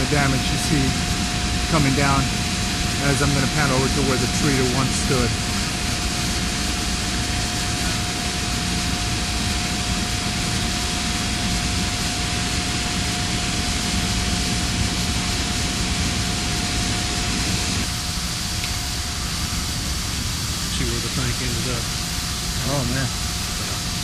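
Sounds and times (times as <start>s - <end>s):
constant machinery whine: 0.0s - 24.0s
rushing machinery rumble: 0.0s - 24.0s.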